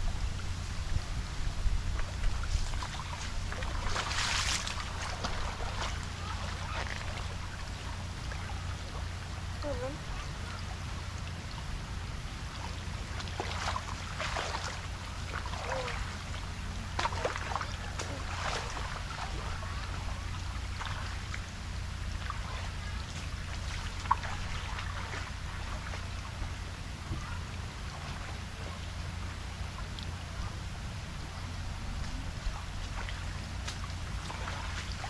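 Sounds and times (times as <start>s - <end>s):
low rumble: 0.0s - 35.0s
water splashing and trickling: 0.0s - 35.0s.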